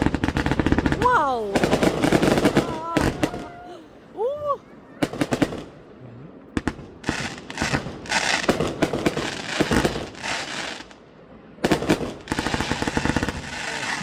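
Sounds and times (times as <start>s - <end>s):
fireworks crackling: 0.0s - 5.8s, 6.6s - 11.0s, 11.7s - 14.0s.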